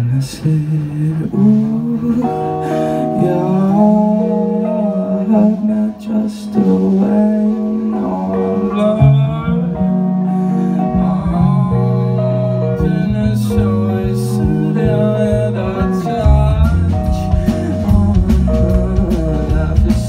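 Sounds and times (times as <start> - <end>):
live rock band playing: 0.4 - 20.0.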